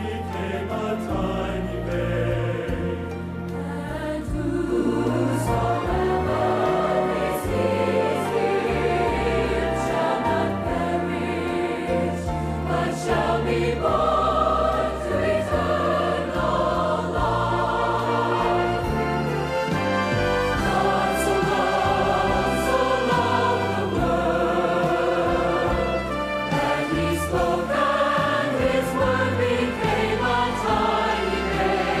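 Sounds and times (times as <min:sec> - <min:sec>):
gospel choir singing: 0:00.0 - 0:32.0
orchestral accompaniment: 0:00.0 - 0:32.0.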